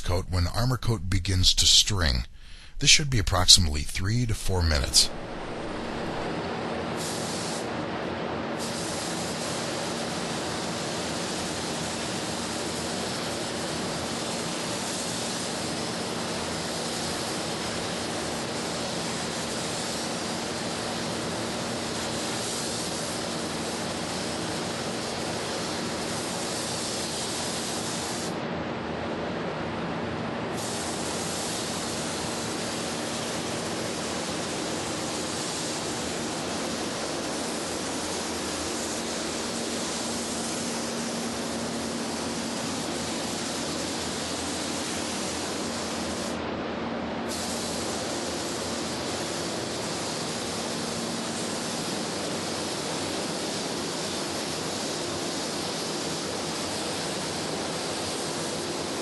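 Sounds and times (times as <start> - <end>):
spray gun hissing: 0.1 - 6.4, 7.0 - 7.7, 8.6 - 28.4, 30.5 - 46.4, 47.2 - 59.0.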